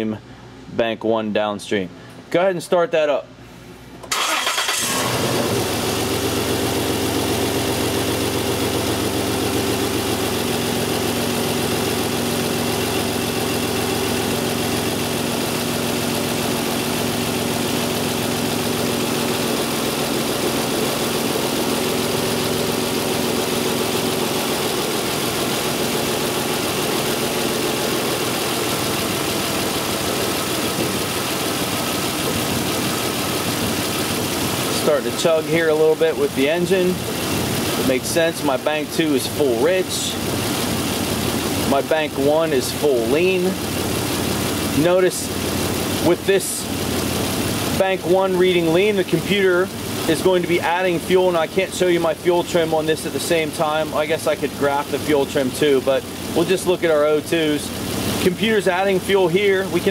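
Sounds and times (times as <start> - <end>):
car engine starting and idling: 4.0 - 59.9.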